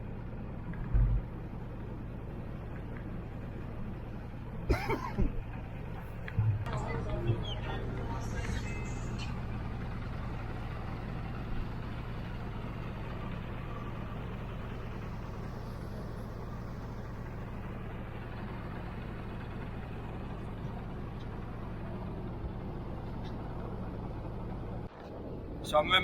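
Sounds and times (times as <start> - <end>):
speedboat engine humming: 0.0 - 26.0.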